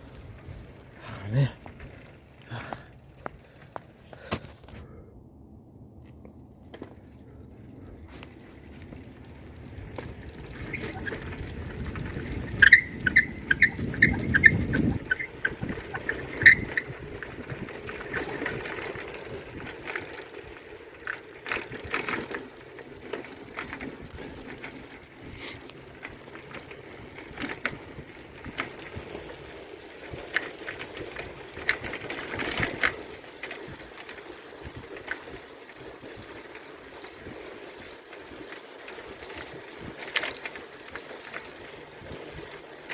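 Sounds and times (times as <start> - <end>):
bike rattling over ground: 0.0 - 4.9, 5.9 - 42.9
wind rumbling on microphone: 3.3 - 40.2, 40.8 - 42.9.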